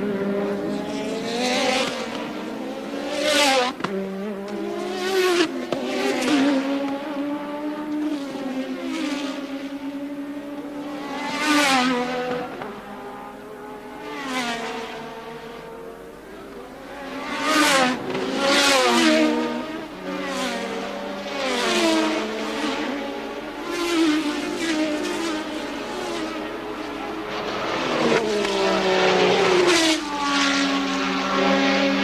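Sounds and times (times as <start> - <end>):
racing cars passing at high revs: 0.0 - 32.0.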